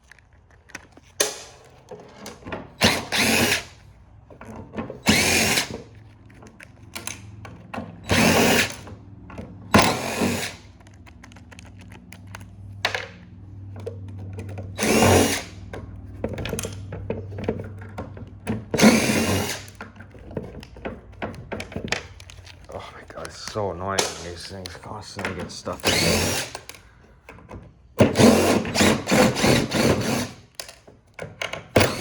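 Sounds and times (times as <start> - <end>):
power drill whining: 2.2 - 12.8, 13.6 - 30.9, 31.7 - 32.0.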